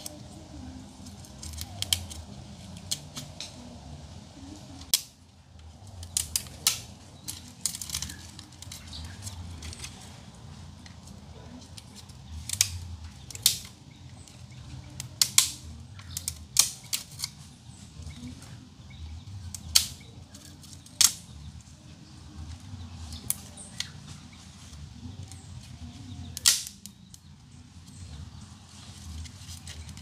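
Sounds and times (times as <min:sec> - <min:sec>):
wood fire crackling: 0:00.0 - 0:18.4, 0:19.0 - 0:30.0.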